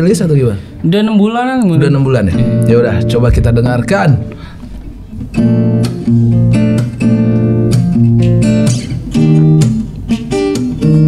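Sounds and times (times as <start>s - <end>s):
acoustic guitar strumming: 1.9s - 11.0s.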